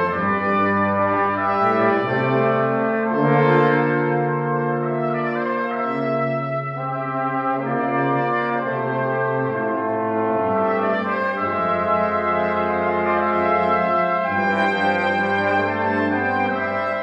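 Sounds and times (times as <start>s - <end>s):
brass quintet playing chords: 0.0s - 17.0s.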